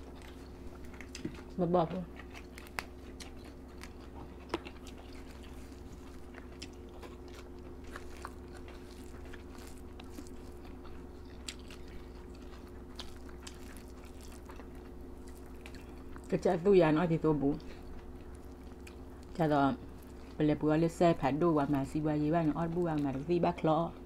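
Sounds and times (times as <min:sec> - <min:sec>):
chewing and crunching: 0:00.0 - 0:24.0
steady low hum: 0:00.0 - 0:24.0.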